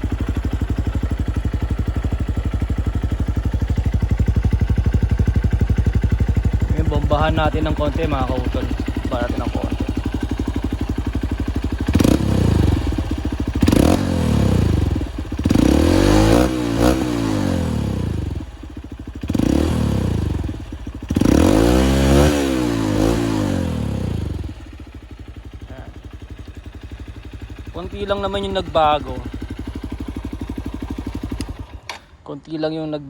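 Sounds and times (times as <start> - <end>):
motorcycle engine revving: 0.0 - 32.8.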